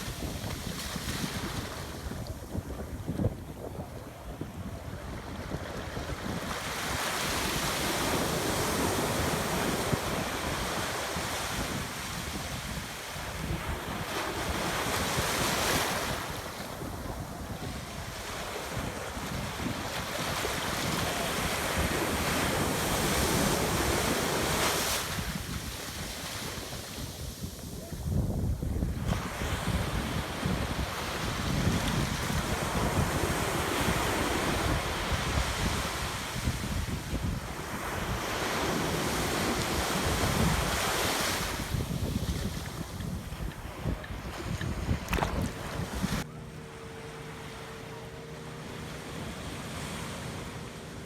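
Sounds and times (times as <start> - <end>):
surf washing onto sandy beach: 0.0 - 46.3.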